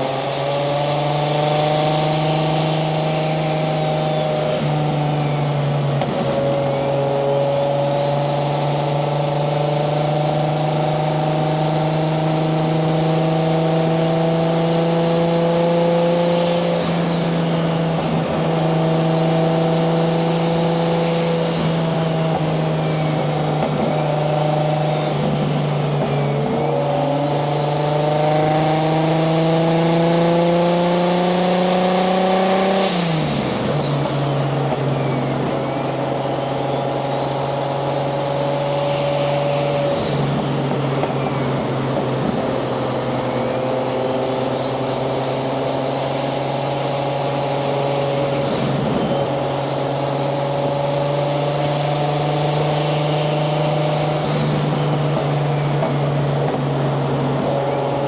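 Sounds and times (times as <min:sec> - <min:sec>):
car engine cruising: 0:00.0 - 0:58.0.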